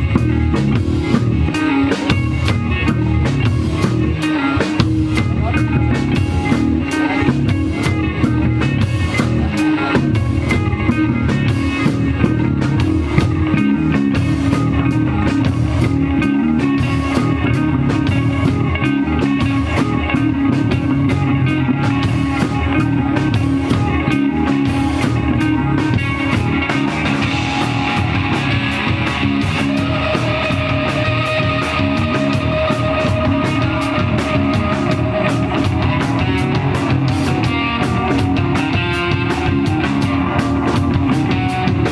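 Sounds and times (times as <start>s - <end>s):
drum kit: 0.0s - 41.9s
electric bass: 0.0s - 41.9s
electric guitar: 0.0s - 41.9s.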